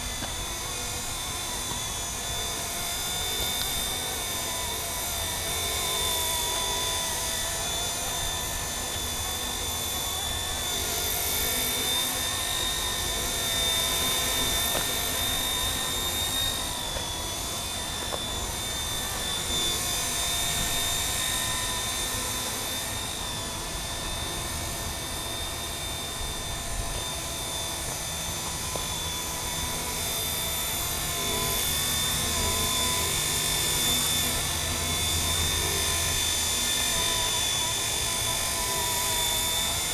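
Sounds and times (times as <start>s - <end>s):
model helicopter motor whine: 0.0s - 39.9s.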